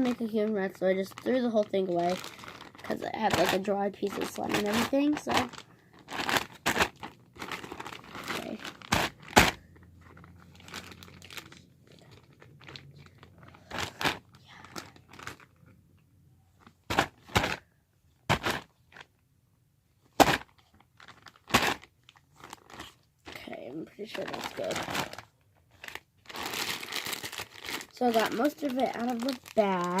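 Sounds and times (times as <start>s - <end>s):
plastic bag crinkling: 0.0s - 15.7s, 16.6s - 17.6s, 18.3s - 19.1s, 20.0s - 30.0s.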